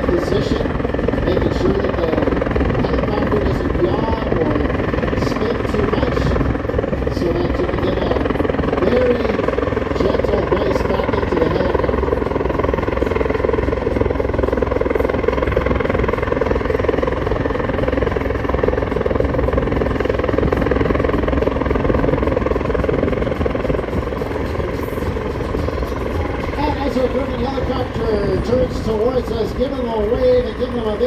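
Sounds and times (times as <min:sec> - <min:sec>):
helicopter rotor and turbine engines: 0:00.0 - 0:31.0.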